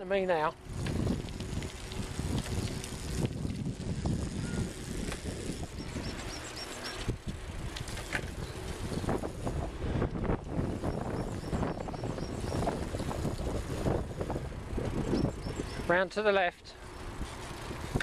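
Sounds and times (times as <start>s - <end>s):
bicycle tyres rumbling on tarmac: 0.0s - 18.0s
bikes rattling and clicking: 0.0s - 18.0s.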